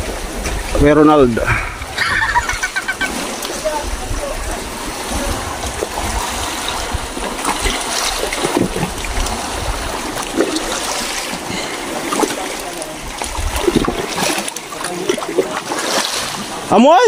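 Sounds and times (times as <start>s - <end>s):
sea water sloshing and splashing: 0.0s - 17.0s.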